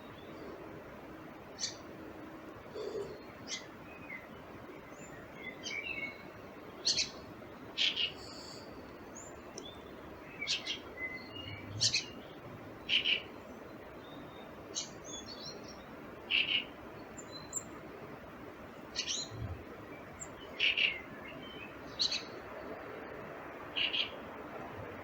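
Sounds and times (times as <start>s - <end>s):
low background hiss: 0.0s - 25.0s
songbirds chirping and singing: 2.7s - 25.0s.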